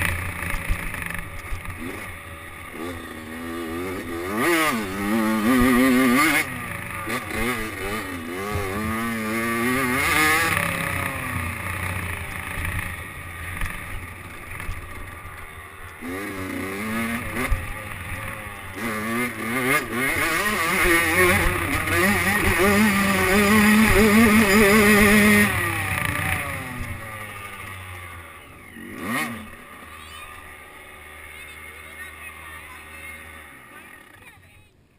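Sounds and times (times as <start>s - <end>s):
dirt bike engine revving: 0.0s - 34.6s.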